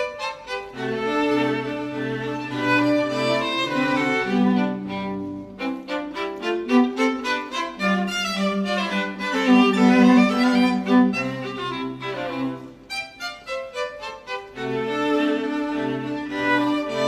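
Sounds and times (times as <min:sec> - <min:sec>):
cello-like low strings: 0:00.0 - 0:17.0
violin: 0:00.0 - 0:17.0.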